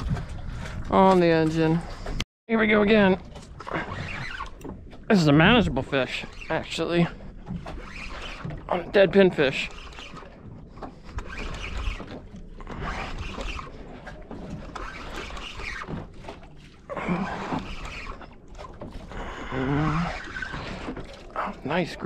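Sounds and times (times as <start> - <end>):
water noise: 0.0 - 22.0
wind: 0.0 - 22.0.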